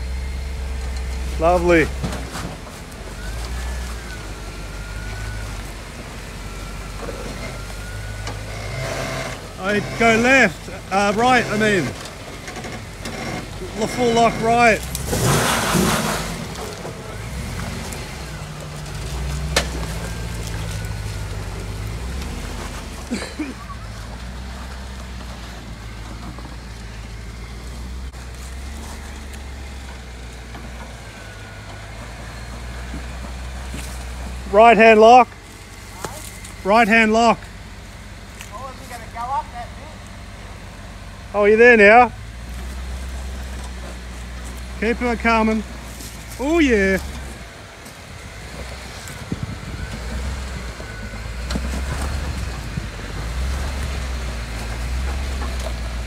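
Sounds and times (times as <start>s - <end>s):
engine running at low revs: 0.0s - 56.0s.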